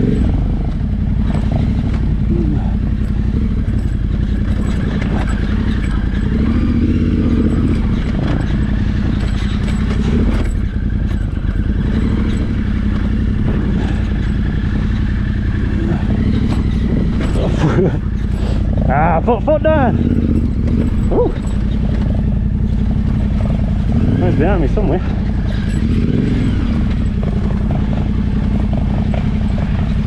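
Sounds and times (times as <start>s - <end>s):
bike knocking and rattling: 0.0s - 30.0s
motorcycle engine running: 0.0s - 30.0s.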